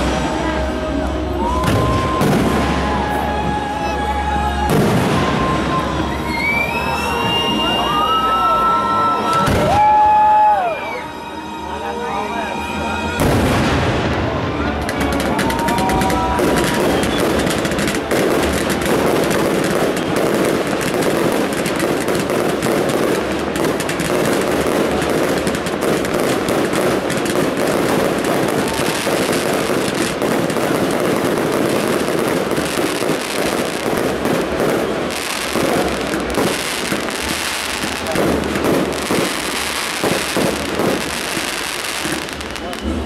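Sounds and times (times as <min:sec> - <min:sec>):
fireworks bursting and crackling: 0:00.0 - 0:11.0, 0:12.8 - 0:43.0.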